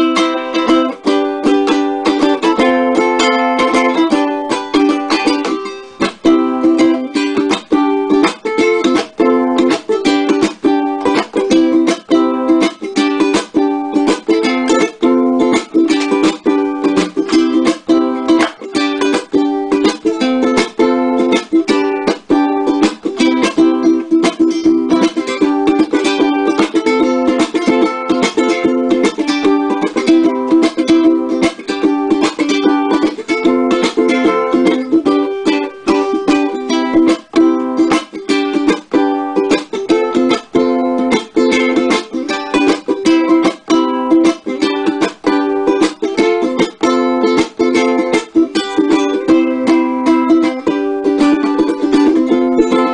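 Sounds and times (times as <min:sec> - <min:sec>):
ukulele strumming: 0:00.0 - 0:52.9.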